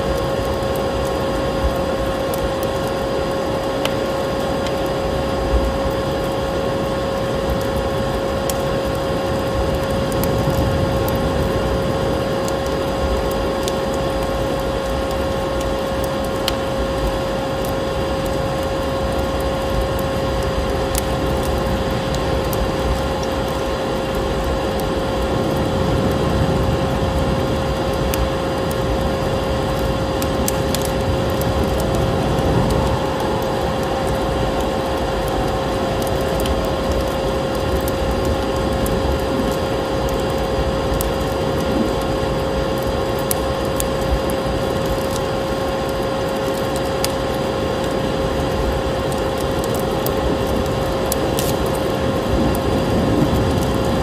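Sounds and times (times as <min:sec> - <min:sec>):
rushing snowstorm wind: 0:00.0 - 0:14.0, 0:18.9 - 0:54.0
log fire crackling: 0:00.0 - 0:54.0.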